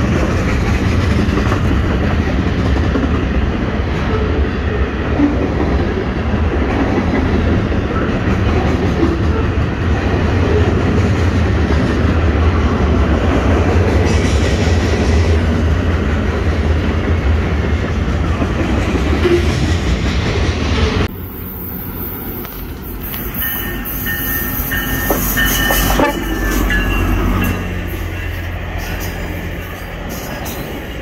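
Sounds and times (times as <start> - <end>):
freight cars rumbling on rails: 0.0 - 31.0.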